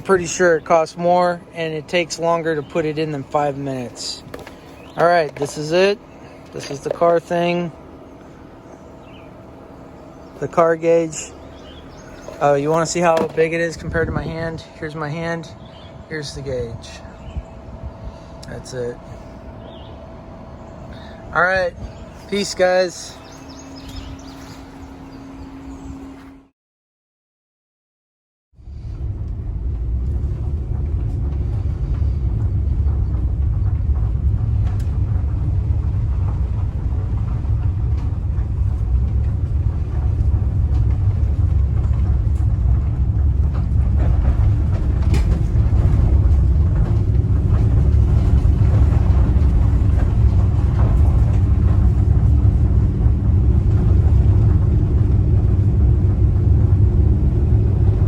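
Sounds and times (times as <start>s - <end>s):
van road and engine rumble: 0.0s - 26.5s, 28.6s - 58.0s.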